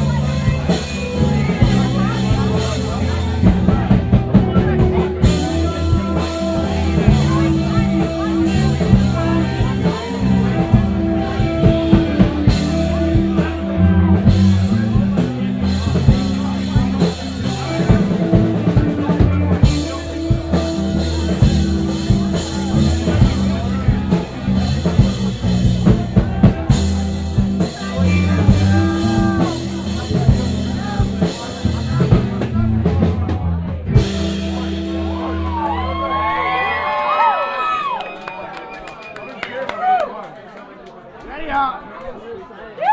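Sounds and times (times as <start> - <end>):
drum kit hitting: 0.0 - 36.5
sustained bass notes: 0.0 - 37.0
guitar: 0.0 - 39.4
live rock band playing: 0.0 - 39.4.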